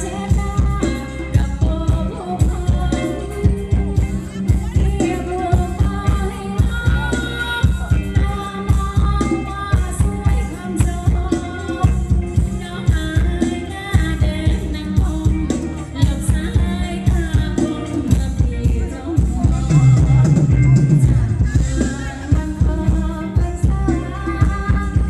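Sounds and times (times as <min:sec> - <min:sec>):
live band dance music: 0:00.0 - 0:25.0
person singing: 0:00.0 - 0:25.0.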